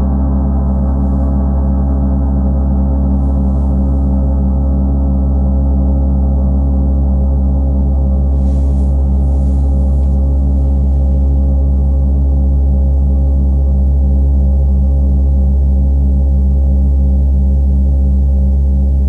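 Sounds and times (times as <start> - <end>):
gong sustained low tones: 0.0 - 19.0.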